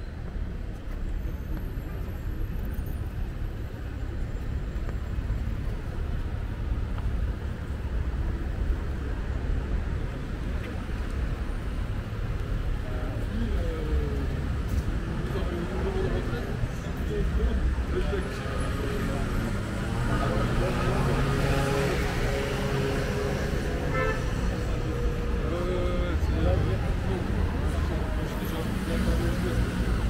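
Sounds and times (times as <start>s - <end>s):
street traffic rumble: 0.0s - 30.0s
voices of passers-by: 0.0s - 30.0s.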